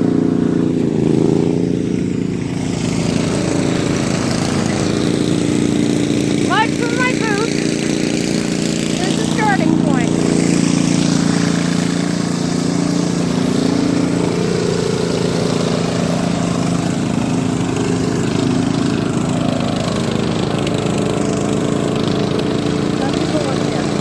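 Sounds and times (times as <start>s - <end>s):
riding lawn mower engine running: 0.0s - 24.0s.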